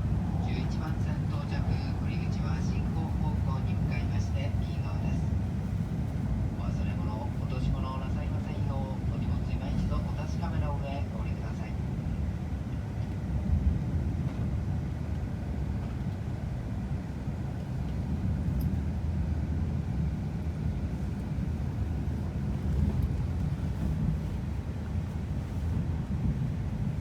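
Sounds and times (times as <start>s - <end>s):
train running low rumble: 0.0s - 27.0s.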